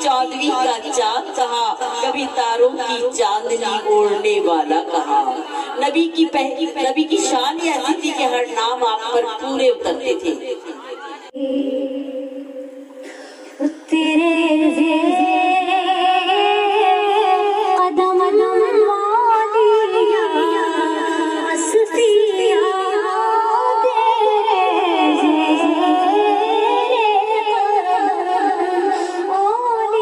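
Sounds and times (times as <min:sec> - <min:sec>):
women singing into a microphone: 0:00.0 - 0:30.0.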